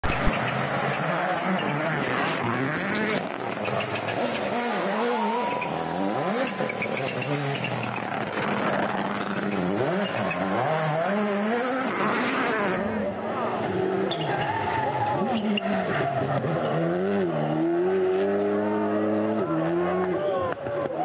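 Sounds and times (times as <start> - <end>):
rally car engine revving: 0.0 - 20.6.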